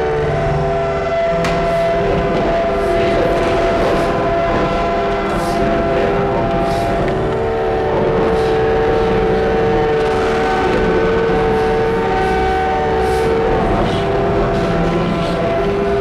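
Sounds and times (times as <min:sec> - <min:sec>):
electronic drone of held tones: 0:00.0 - 0:16.0
low electronic tone: 0:00.0 - 0:16.0.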